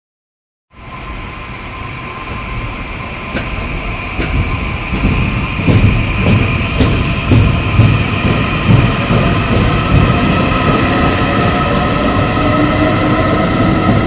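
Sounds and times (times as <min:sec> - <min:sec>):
electric train whine: 0:00.7 - 0:14.0
rushing wind and wheels: 0:00.9 - 0:14.0.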